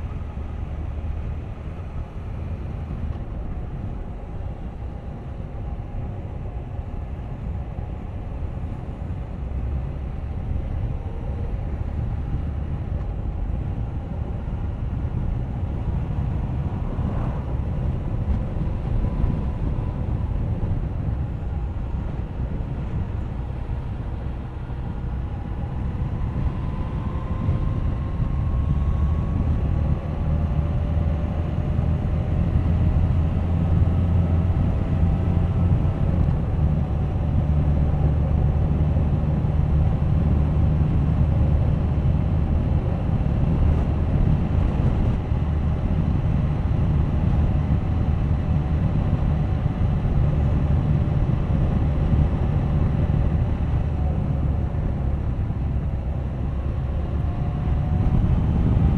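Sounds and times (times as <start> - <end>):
wind on microphone: 10.4 - 58.9.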